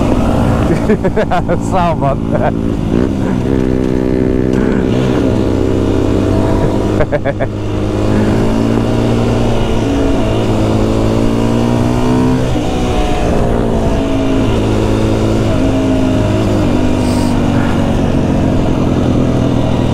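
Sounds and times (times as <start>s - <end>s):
motorcycle engine shifting gears: 0.0s - 19.9s.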